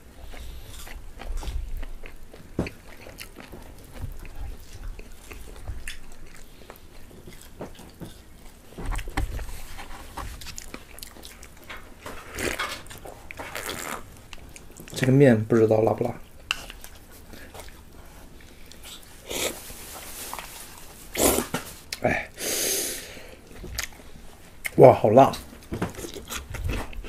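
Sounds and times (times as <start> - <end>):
chewing crunchy fried chicken: 0.1 - 22.2, 23.4 - 24.8, 25.4 - 27.0.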